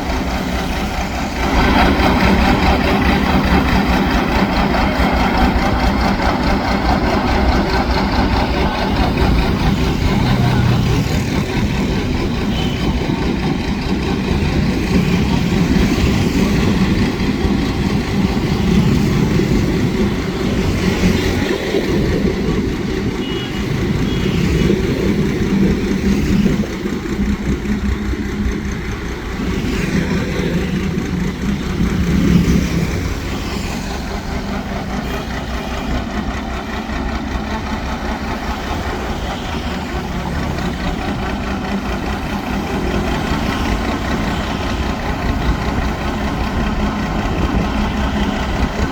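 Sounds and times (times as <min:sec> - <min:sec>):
boat engine running: 0:00.0 - 0:48.9.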